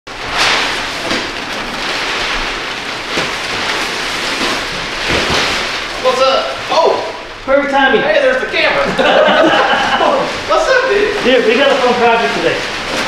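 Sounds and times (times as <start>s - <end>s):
nylon kite sail rustling: 0.1s - 7.4s, 8.1s - 13.0s.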